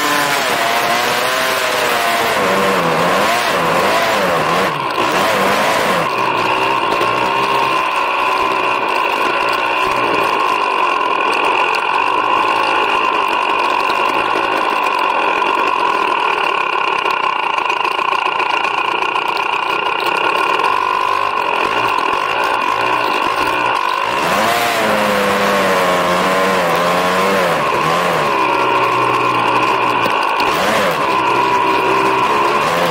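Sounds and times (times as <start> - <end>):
snow bike engine running: 0.0 - 32.9.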